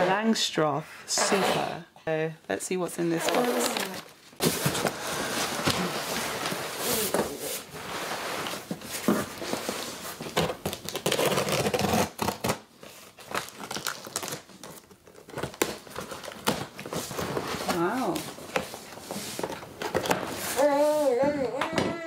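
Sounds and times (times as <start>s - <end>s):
packaging crinkling and rustling: 3.1s - 21.0s.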